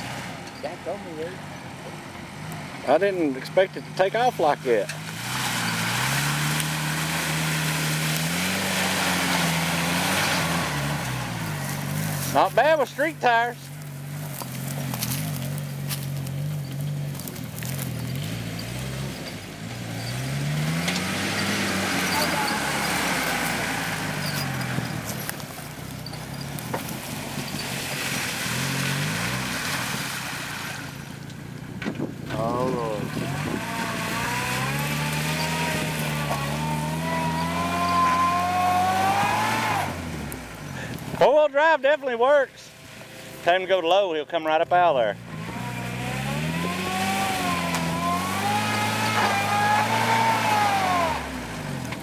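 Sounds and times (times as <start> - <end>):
engine pulling hard: 0.0 - 52.0.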